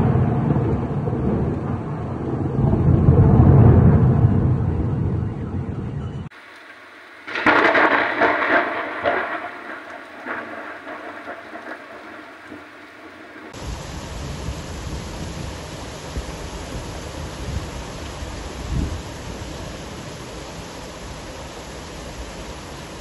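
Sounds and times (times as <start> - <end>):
downpour rain: 0.0 - 4.7, 6.3 - 23.0
thunderclap: 0.0 - 19.8.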